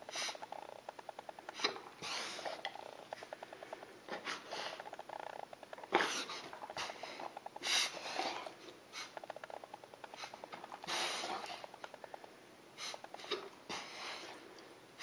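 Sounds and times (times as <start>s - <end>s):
dog gasping: 1.4s - 14.5s.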